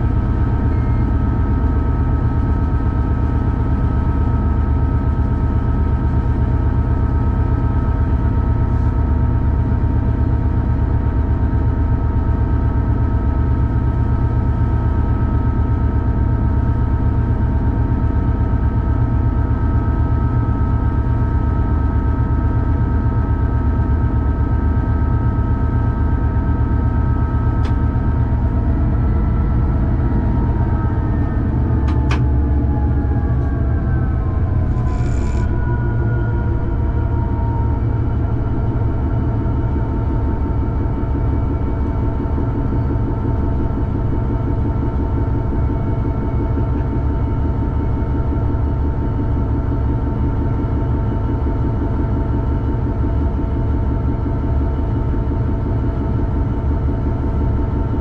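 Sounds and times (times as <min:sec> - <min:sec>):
diesel locomotive engine drone: 0:00.0 - 0:58.0
steady whine: 0:00.0 - 0:58.0.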